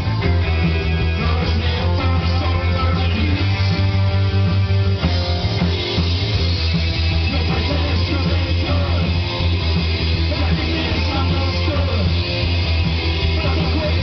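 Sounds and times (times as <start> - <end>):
drums: 0.0 - 14.0
electric guitars: 0.0 - 14.0
heavy bass line: 0.0 - 14.0.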